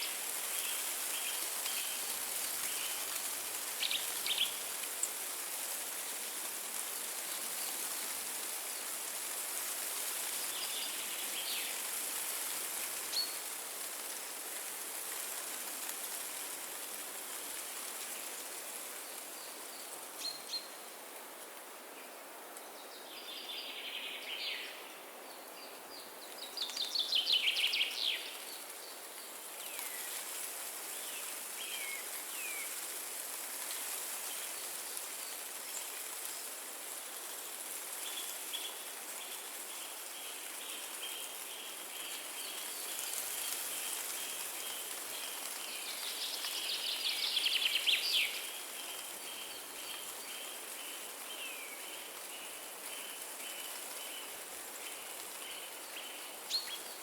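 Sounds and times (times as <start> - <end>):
wind through trees: 0.0 - 57.0.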